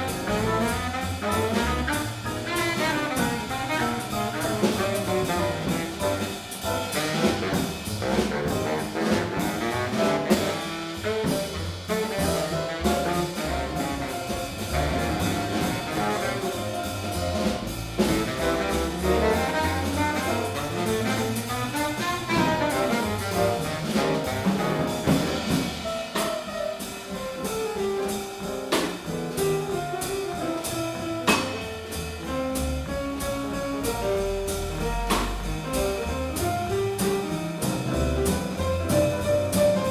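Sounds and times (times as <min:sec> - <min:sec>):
jazz quintet playing bebop: 0:00.0 - 0:39.9.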